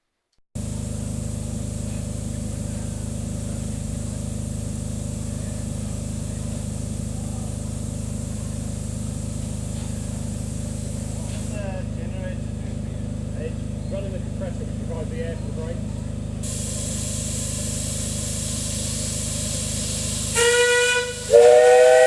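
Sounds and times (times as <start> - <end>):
air compressor pulsing: 0.6 - 22.0.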